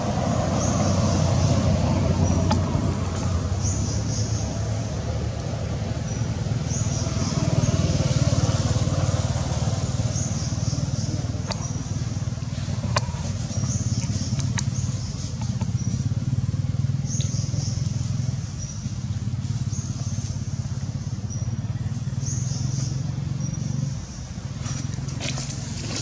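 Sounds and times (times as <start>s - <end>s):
motor vehicle engine rumbling: 0.0s - 26.0s.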